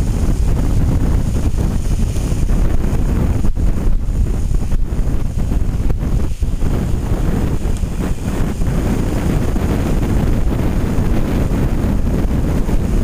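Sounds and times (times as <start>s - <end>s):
air rushing over microphone: 0.0s - 13.0s.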